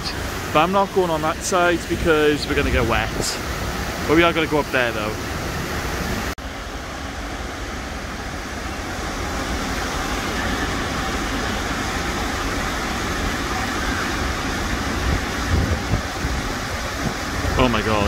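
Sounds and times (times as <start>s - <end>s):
waterfall rushing into a pool: 0.0s - 18.0s.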